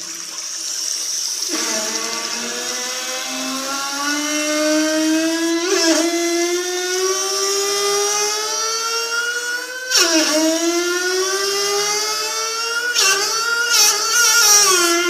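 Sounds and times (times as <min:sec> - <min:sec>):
water tap whine: 0:00.0 - 0:15.0.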